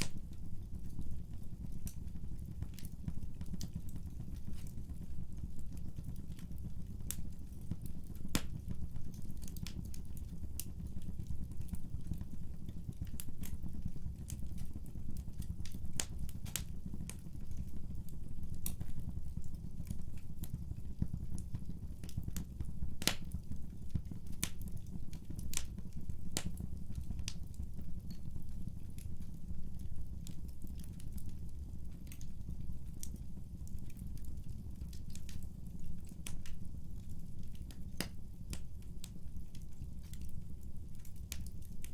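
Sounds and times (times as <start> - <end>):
burning wood popping and crackling: 0.0 - 41.9
fire rumbling: 0.0 - 41.9.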